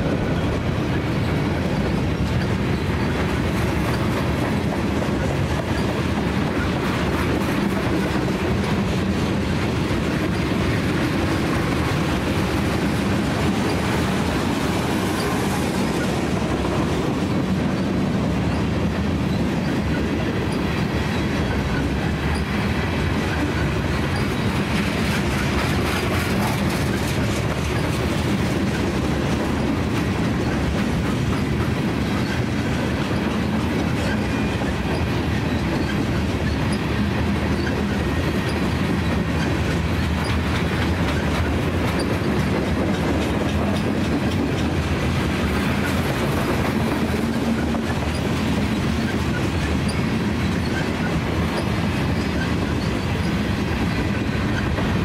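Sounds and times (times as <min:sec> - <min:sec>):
clickety-clack of wheels: 0:00.0 - 0:55.0
freight train rolling past: 0:00.0 - 0:55.0.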